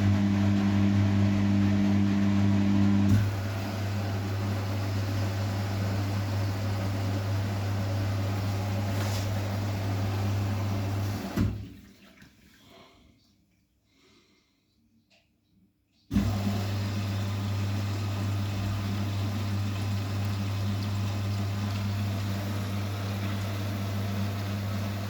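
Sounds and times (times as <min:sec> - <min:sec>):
washing machine water rushing: 0:00.0 - 0:12.6, 0:16.1 - 0:25.0.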